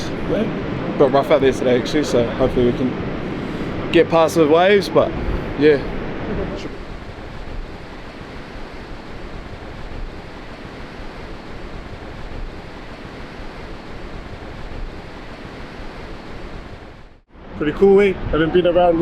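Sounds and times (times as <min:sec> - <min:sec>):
ocean surf breaking: 0:00.0 - 0:19.0
wind rumbling on microphone: 0:00.0 - 0:19.0.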